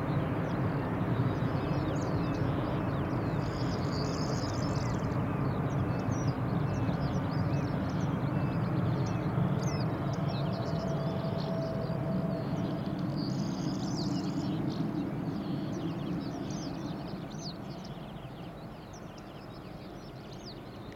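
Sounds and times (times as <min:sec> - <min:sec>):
birds chirping: 0:00.0 - 0:20.9
jet engine rumble: 0:00.0 - 0:20.9.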